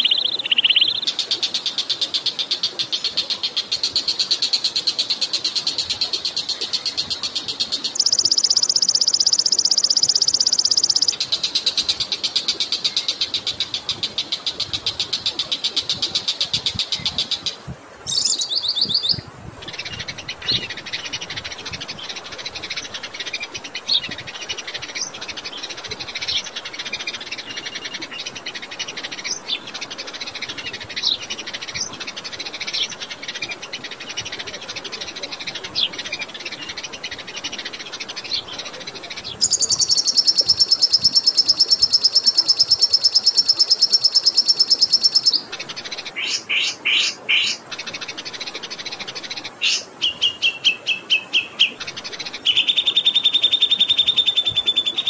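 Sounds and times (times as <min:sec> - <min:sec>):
rapid bird trill: 0:00.0 - 0:04.6, 0:05.7 - 0:17.4, 0:19.7 - 0:55.0
running water murmuring: 0:00.0 - 0:55.0
songbird chattering and chipping: 0:00.0 - 0:55.0.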